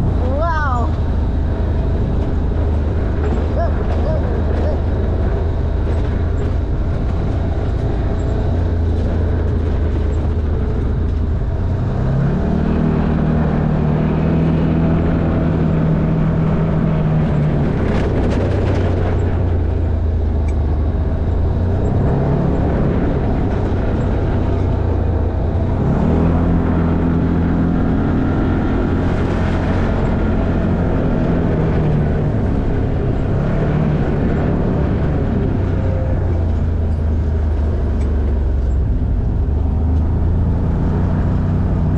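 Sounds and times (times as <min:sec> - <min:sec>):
off-road vehicle engine running: 0:00.0 - 0:41.9.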